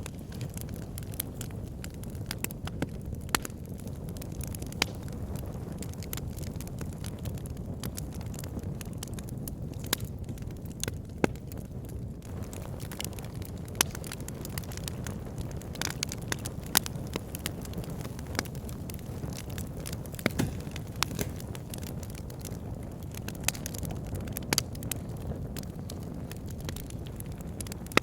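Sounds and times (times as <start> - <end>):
burning logs crackling and popping: 0.0 - 28.0
low rumble of flames: 0.0 - 28.0.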